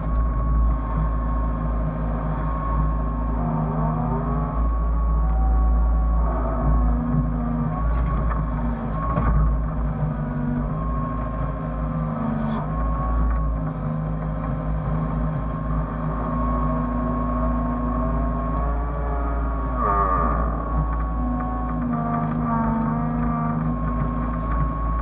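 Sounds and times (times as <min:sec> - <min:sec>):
excavator diesel engine running: 0:00.0 - 0:25.0
high wavering whine: 0:00.0 - 0:25.0.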